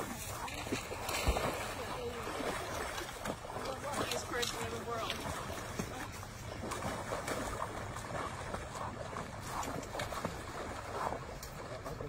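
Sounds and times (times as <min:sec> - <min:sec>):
water splashing among ice: 0:00.0 - 0:12.0.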